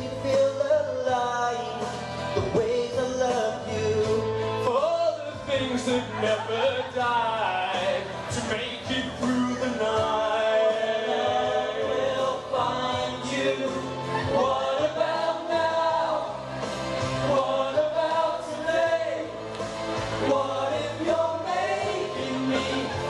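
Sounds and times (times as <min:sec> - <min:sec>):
voices singing pop song in harmony: 0:00.0 - 0:23.0.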